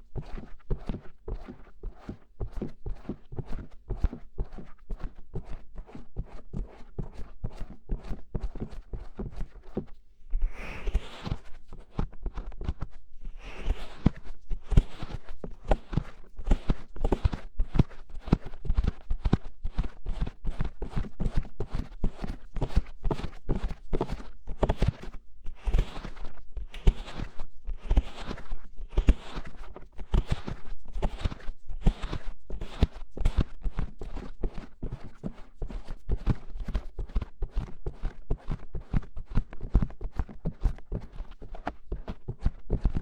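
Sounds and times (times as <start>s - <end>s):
soft scratchy rustles: 0.0s - 43.0s.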